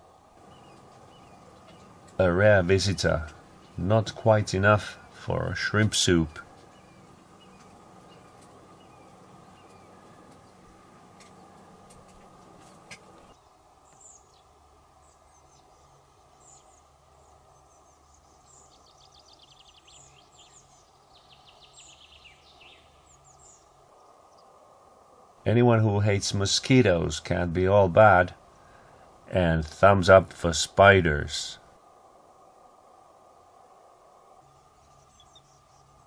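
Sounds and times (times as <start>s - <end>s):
low steady hiss: 0.0s - 36.0s
small birds calling: 0.0s - 36.0s.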